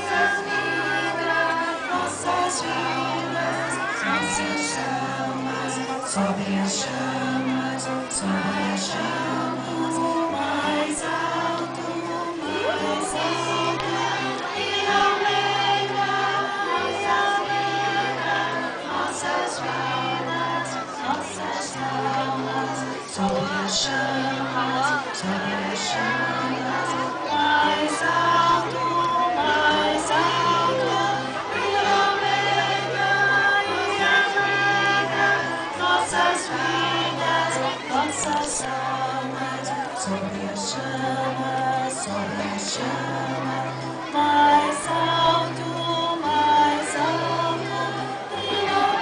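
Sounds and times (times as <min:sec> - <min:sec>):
choir singing: 0:00.0 - 0:49.0.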